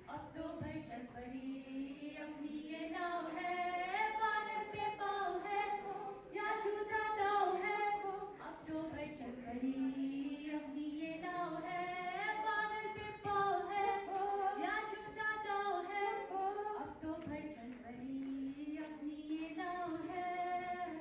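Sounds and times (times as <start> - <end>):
women singing into microphones: 0.0 - 21.0.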